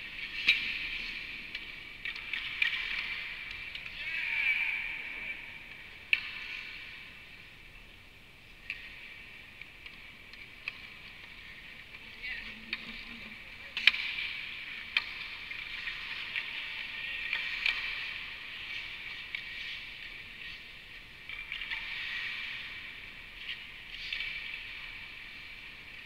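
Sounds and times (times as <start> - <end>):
hockey sticks and puck clacking: 0.0 - 4.2, 5.7 - 7.2, 8.6 - 26.0.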